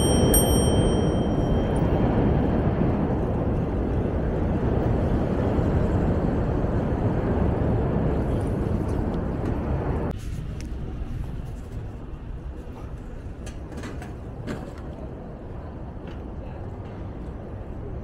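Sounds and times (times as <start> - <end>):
city street traffic: 0.0 - 18.0
wind noise on microphone: 0.0 - 18.0.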